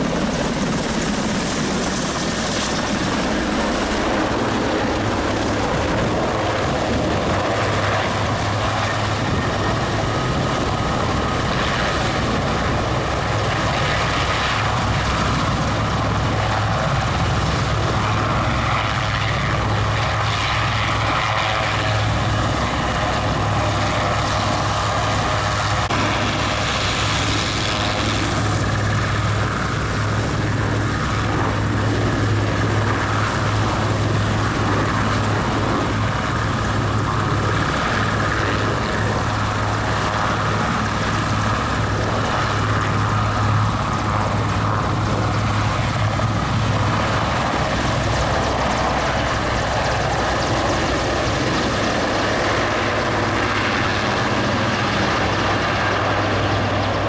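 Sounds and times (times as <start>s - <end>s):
helicopter rotor noise: 0.0s - 57.0s
turbine whine: 0.0s - 57.0s.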